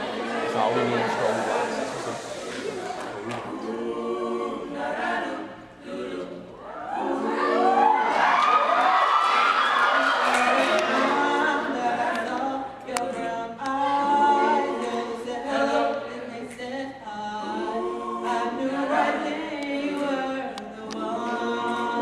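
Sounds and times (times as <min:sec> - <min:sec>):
boys singing a cappella: 0:00.0 - 0:22.0.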